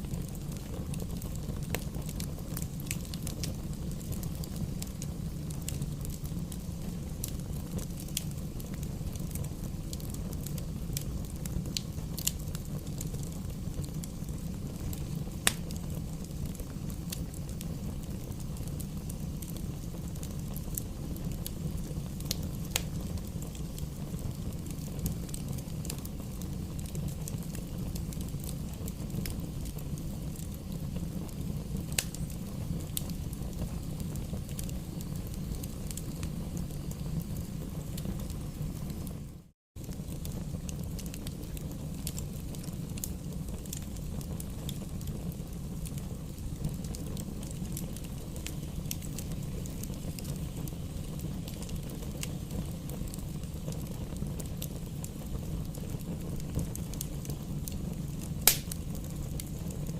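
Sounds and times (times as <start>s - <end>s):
bonfire rumbling: 0.0s - 59.9s
fire crackles and pops: 0.0s - 59.9s.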